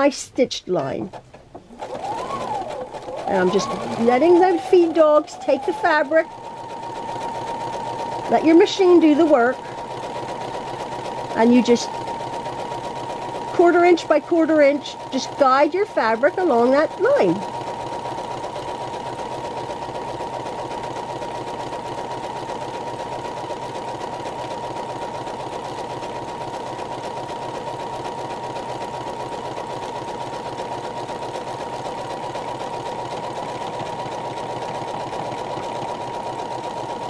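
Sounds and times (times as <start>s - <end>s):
electric sewing machine whirring: 0.8s - 37.0s.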